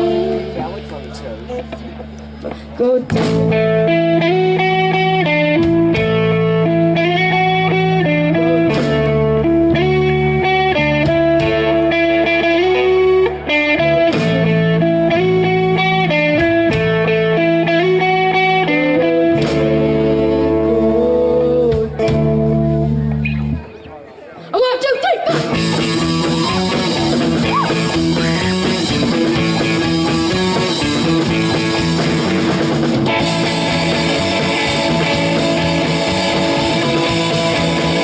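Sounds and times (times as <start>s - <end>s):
drums: 0.0s - 23.9s, 24.9s - 38.0s
electric guitar melody: 0.0s - 24.0s, 25.3s - 38.0s
bass guitar: 0.0s - 24.2s, 25.3s - 38.0s.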